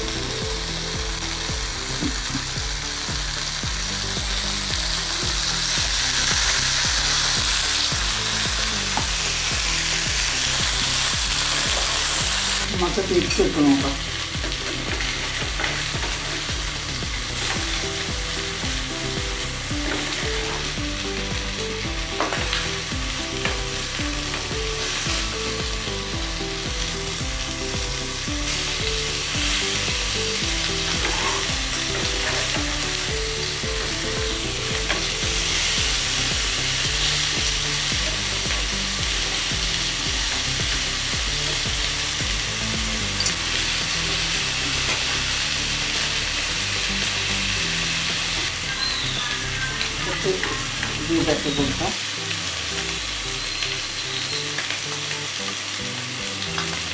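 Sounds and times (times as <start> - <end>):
chicken sizzling in oil: 0.0 - 56.9.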